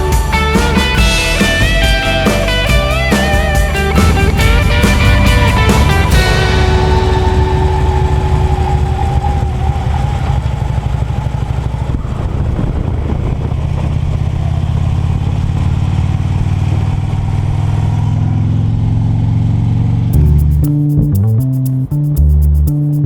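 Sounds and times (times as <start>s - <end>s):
road noise: 0.0s - 22.0s
motorcycle engine running: 0.0s - 23.0s.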